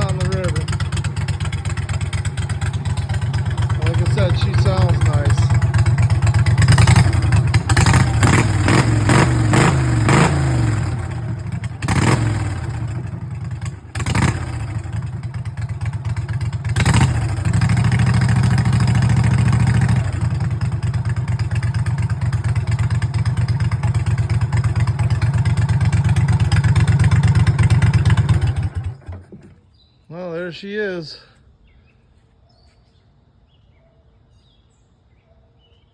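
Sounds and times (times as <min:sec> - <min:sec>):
mud motor engine revving and idling: 0:00.0 - 0:29.4.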